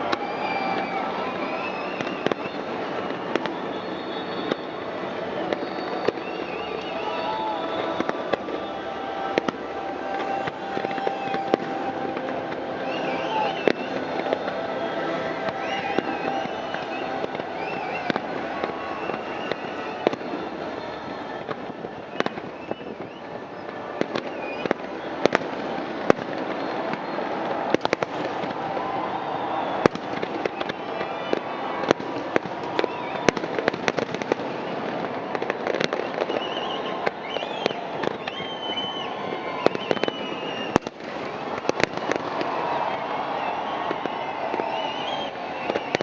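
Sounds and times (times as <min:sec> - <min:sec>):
firework bangs: 0:00.0 - 0:46.0
fireworks crackling: 0:00.0 - 0:46.0.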